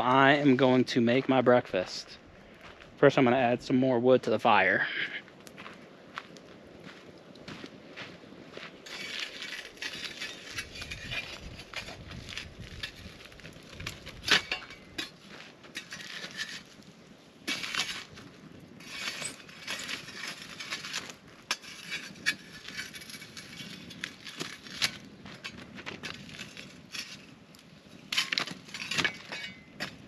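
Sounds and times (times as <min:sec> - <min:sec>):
wood knocking and scraping in campfire: 0:04.2 - 0:30.0.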